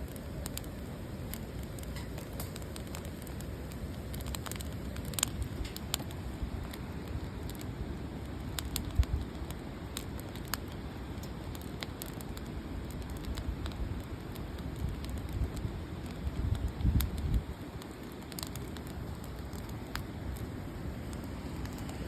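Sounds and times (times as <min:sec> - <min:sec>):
campfire crackling: 0:00.0 - 0:22.0
fire popping: 0:00.0 - 0:22.0.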